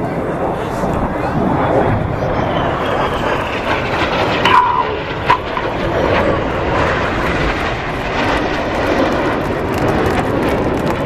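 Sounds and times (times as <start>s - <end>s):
jet engines flying past: 0.0s - 11.0s.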